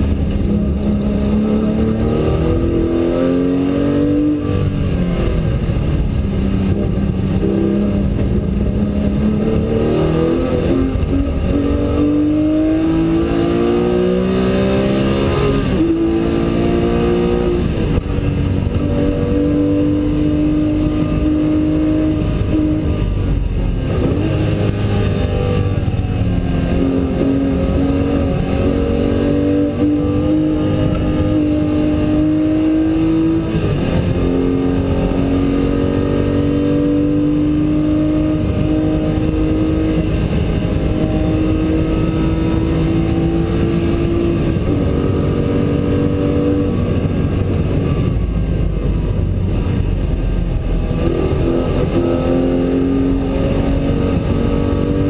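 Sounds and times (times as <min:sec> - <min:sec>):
race car engine revving: 0:00.0 - 0:55.0
road and tyre noise: 0:00.0 - 0:55.0.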